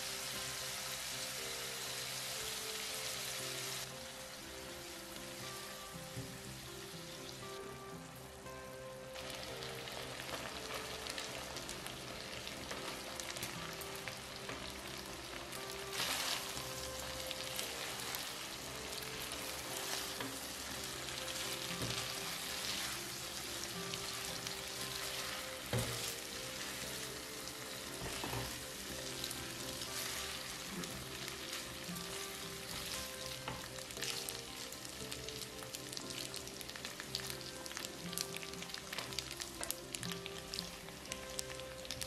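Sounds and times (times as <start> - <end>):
food sizzling in a frying pan: 0.0 - 42.0.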